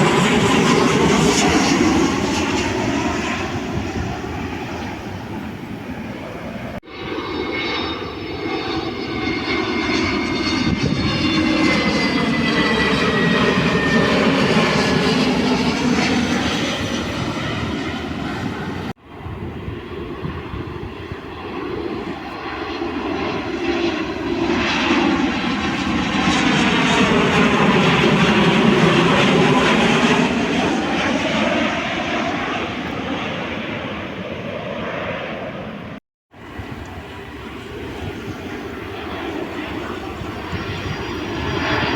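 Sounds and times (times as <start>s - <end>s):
jet airliner engine noise: 0.0s - 41.9s
phasing whoosh of passing jet: 0.0s - 41.9s.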